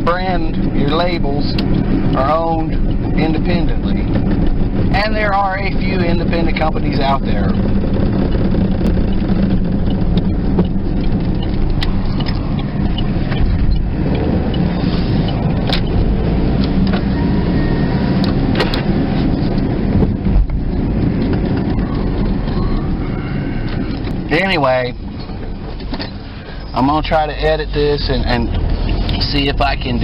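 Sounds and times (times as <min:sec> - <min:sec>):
car road noise rumble: 0:00.0 - 0:30.0.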